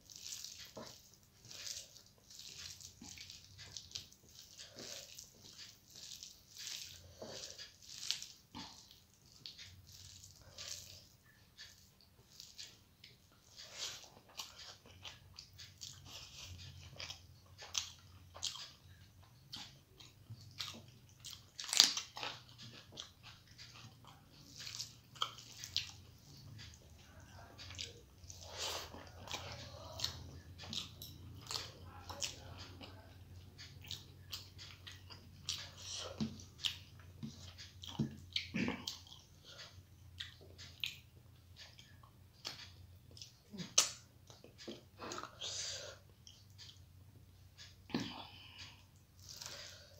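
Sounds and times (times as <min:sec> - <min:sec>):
faint low hum: 0:00.0 - 0:49.9
person chewing food: 0:00.0 - 0:49.9.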